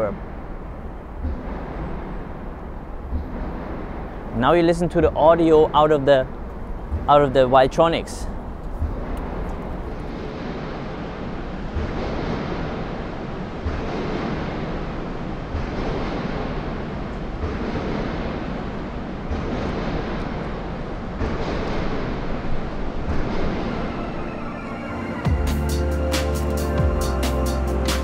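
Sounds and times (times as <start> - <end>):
distant construction and city noise: 0.0 - 28.0
low thumps: 0.0 - 28.0.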